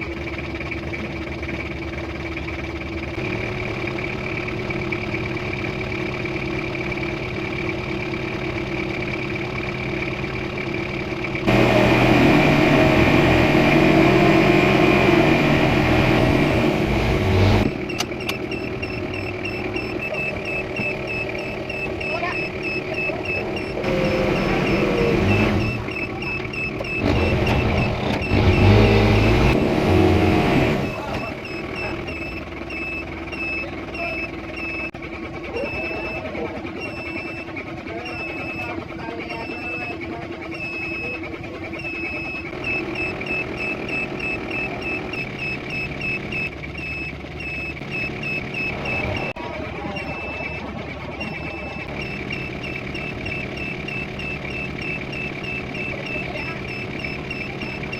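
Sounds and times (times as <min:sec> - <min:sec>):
off-road vehicle engine running: 0:00.0 - 0:57.9.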